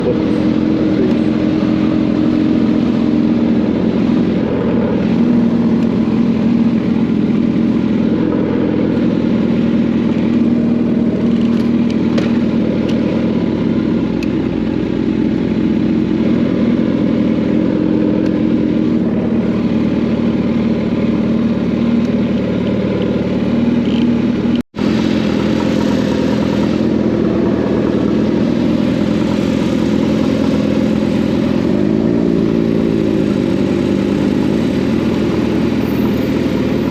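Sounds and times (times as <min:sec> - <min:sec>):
motorcycle engine cruising: 0:00.0 - 0:36.9.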